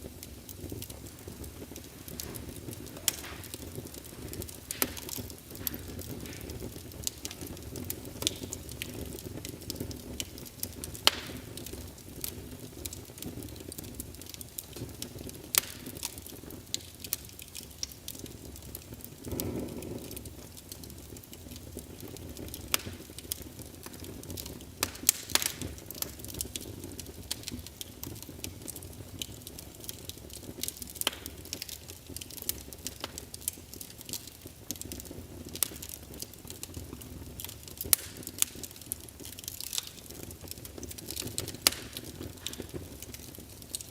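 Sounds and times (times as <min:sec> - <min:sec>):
low rumble of flames: 0:00.0 - 0:43.9
wood fire crackling: 0:00.0 - 0:43.9.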